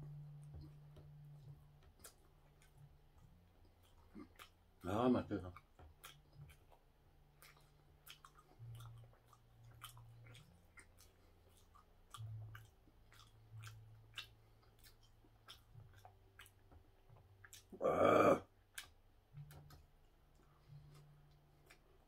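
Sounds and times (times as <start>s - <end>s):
person chewing soft bun: 0.0s - 22.0s.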